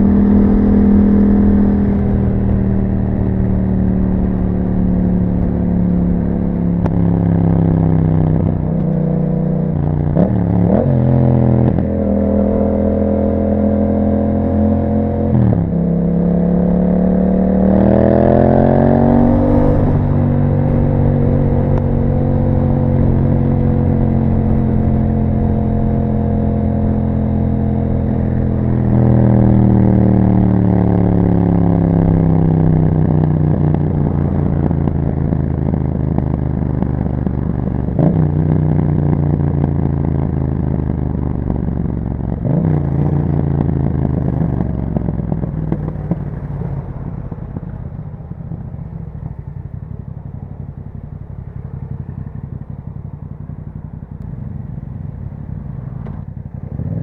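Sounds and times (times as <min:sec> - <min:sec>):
motorcycle engine slowing: 0:00.0 - 0:57.0.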